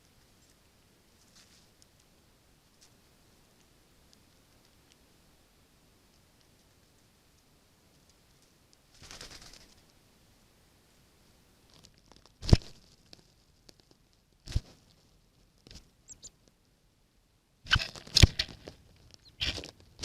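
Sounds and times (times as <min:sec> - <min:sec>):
birds pecking and crunching: 0:00.0 - 0:10.0, 0:11.7 - 0:16.6, 0:17.7 - 0:20.0.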